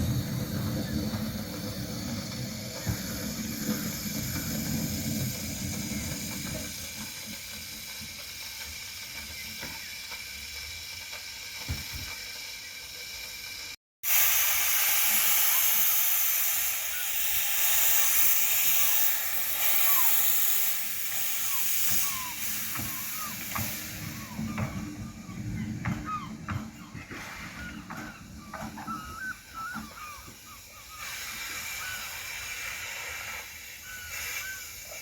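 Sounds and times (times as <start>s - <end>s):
loud steam hiss: 0.0s - 25.9s, 27.0s - 35.0s
steam train low rumble: 0.0s - 35.0s.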